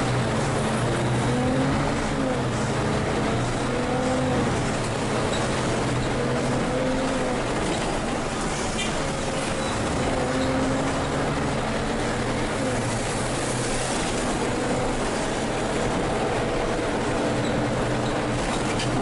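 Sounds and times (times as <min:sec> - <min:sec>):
bus diesel engine running: 0:00.0 - 0:19.0
road and body rumble: 0:00.0 - 0:19.0.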